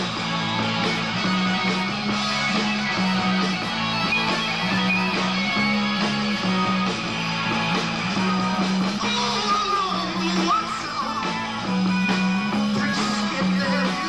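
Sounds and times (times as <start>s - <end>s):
live rock band playing: 0.0s - 14.0s
strummed electric guitars: 0.0s - 14.0s.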